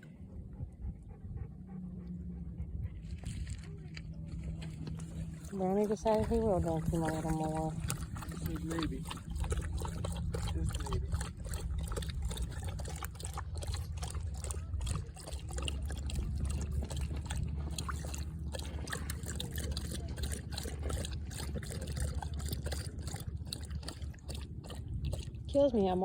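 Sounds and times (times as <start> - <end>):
dog lapping water: 0.0 - 26.0
steady low rumble: 0.0 - 26.0.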